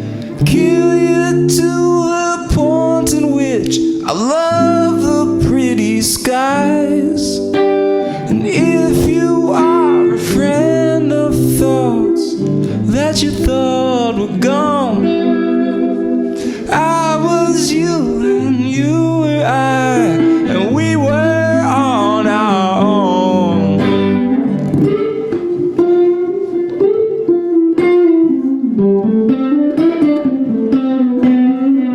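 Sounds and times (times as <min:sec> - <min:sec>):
instrumental guitar music: 0:00.0 - 0:31.9.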